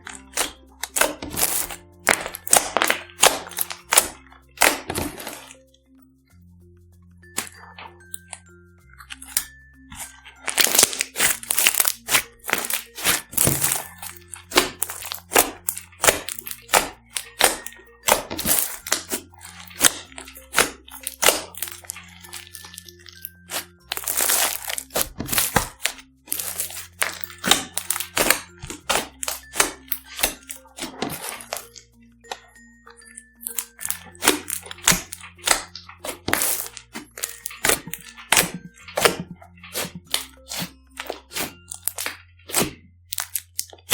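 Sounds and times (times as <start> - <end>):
slime crackling and popping: 0.0 - 5.6, 7.3 - 43.9
background music with bass: 0.0 - 43.9.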